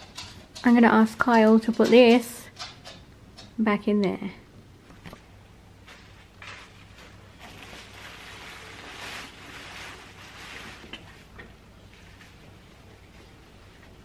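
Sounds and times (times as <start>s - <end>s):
soft rustling hiss: 0.0s - 14.0s.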